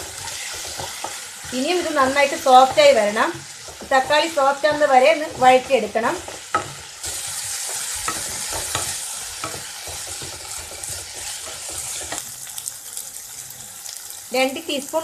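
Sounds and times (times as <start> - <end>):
spatula scraping pan: 0.0 - 12.3
vegetables sizzling in oil: 0.0 - 15.0.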